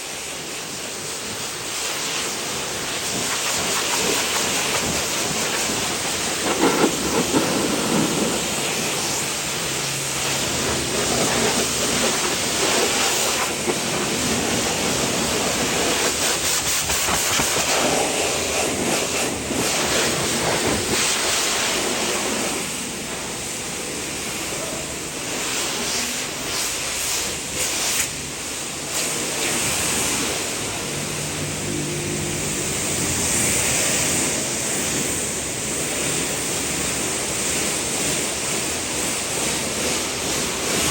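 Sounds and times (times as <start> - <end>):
water spraying onto truck: 0.0 - 40.9.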